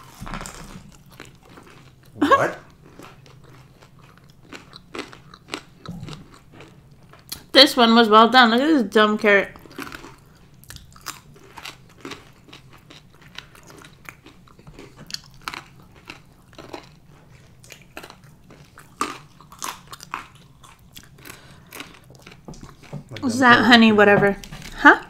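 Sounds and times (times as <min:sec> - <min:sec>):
chewing raw carrot crunches: 0:00.0 - 0:07.5, 0:09.6 - 0:23.3.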